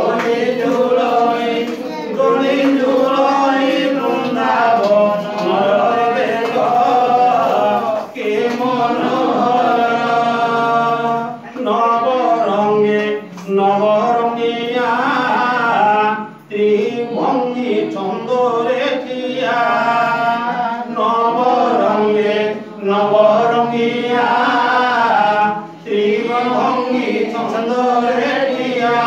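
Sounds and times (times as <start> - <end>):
devotional chanting: 0.0 - 29.0.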